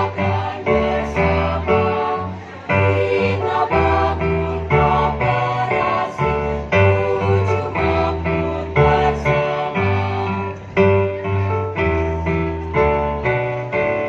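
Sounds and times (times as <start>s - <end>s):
piano chords over strong bass: 0.0s - 14.0s.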